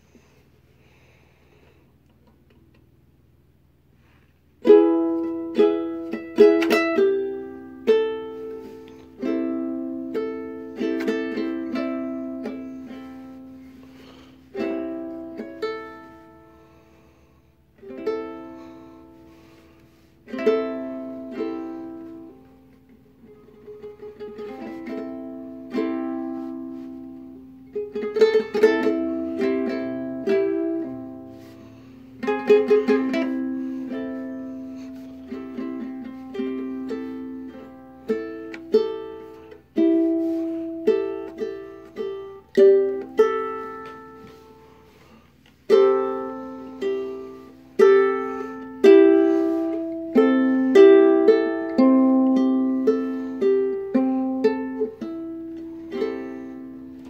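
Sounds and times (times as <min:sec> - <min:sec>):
ukulele playing: 0:04.6 - 0:57.0.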